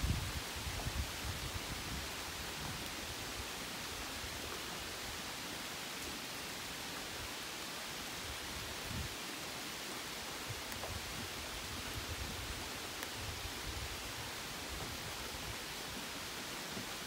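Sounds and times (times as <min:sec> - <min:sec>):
rain falling on foliage: 0:00.0 - 0:17.0.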